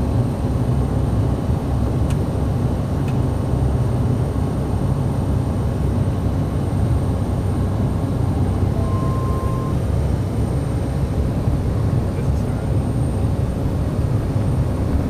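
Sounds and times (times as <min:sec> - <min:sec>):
turboprop engine drone and whine: 0:00.0 - 0:15.0.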